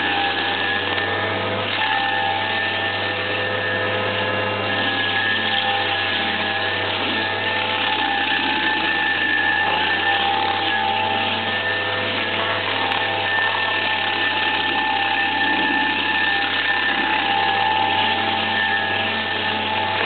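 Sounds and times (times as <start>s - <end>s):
stump grinder cutter whine: 0.0s - 20.0s.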